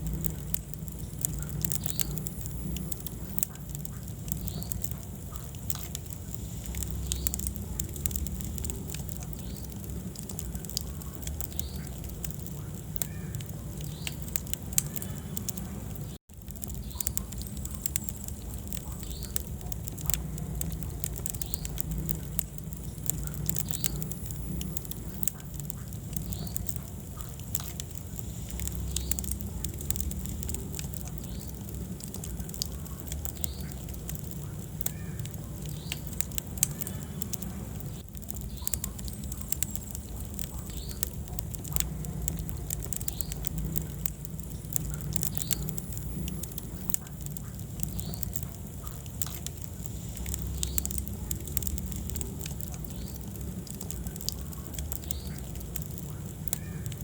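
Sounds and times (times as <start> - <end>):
fire flames rumbling: 0.0 - 57.0
wood fire crackling and popping: 0.0 - 57.0.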